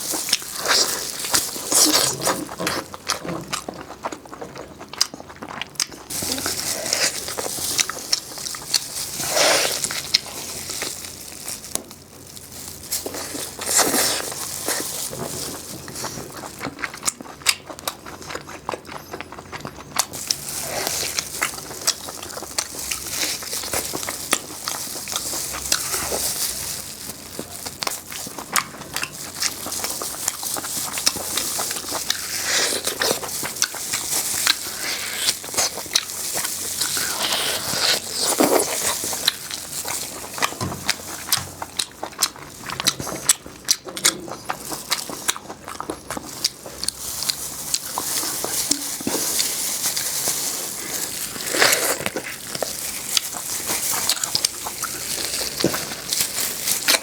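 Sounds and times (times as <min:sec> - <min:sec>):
chewing crispy food: 0:00.0 - 0:57.0.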